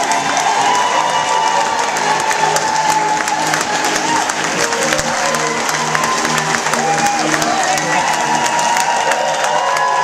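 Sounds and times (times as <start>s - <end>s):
crowd clapping: 0.0s - 10.0s
long high held cheer: 0.0s - 10.0s.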